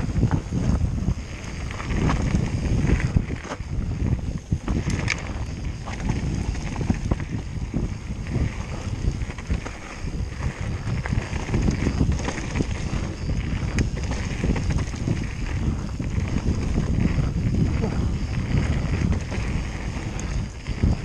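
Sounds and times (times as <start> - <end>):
bike knocking and rattling: 0.0 - 21.0
bike tyres rolling over gravel: 0.0 - 21.0
wind noise on microphone: 0.0 - 21.0.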